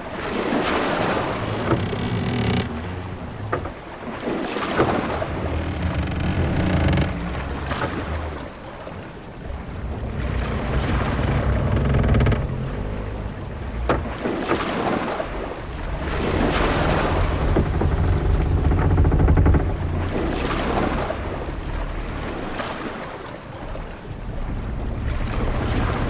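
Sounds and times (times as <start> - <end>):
low ship rumble: 0.0 - 26.0
waves washing: 0.0 - 26.0
wind: 0.0 - 26.0.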